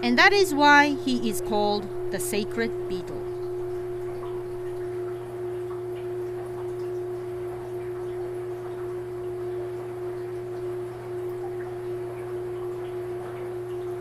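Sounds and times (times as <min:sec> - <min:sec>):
steady pure tone: 0:00.0 - 0:12.3
low hum: 0:00.0 - 0:12.4.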